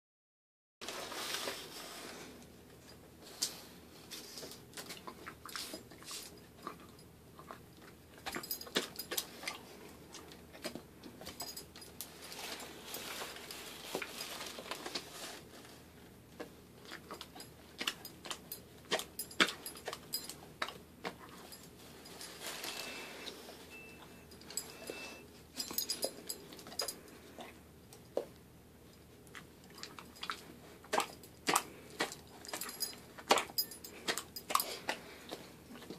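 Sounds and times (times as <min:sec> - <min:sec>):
dog chewing: 0:04.1 - 0:24.9, 0:25.6 - 0:35.9.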